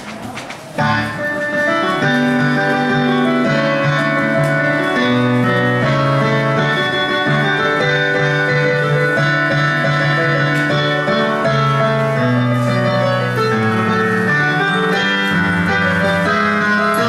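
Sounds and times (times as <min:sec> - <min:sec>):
digital keyboard chords: 0:00.7 - 0:17.0.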